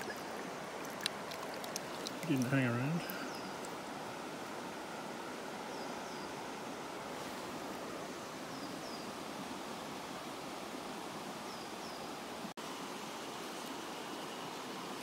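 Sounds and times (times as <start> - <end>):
river running over stones: 0.0 - 15.0.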